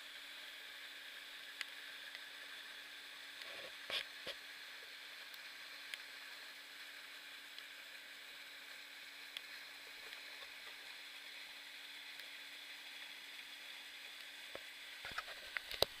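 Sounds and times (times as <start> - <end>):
waterfall hiss: 0.0 - 16.0.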